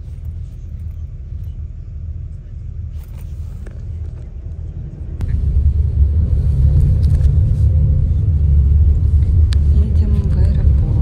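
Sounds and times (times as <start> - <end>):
bus engine rumble: 0.0 - 11.0
road noise inside bus: 0.0 - 11.0.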